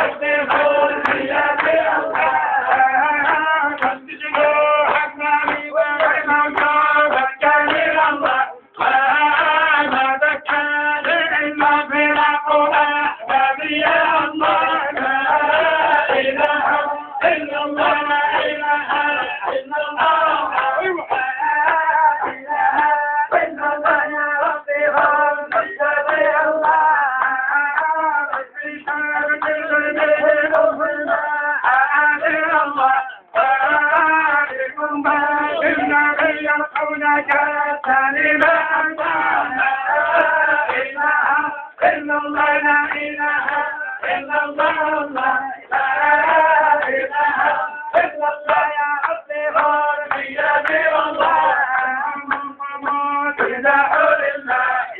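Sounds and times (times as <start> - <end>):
men singing a chant: 0.0 - 54.9.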